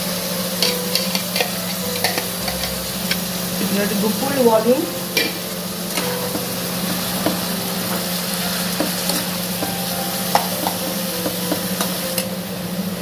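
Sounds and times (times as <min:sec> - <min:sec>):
onion frying in hot oil: 0:00.0 - 0:13.0.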